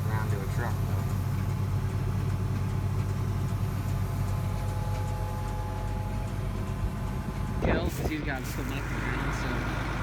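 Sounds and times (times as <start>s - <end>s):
faint thin machinery whine: 0.0s - 10.0s
low engine drone: 0.0s - 10.0s.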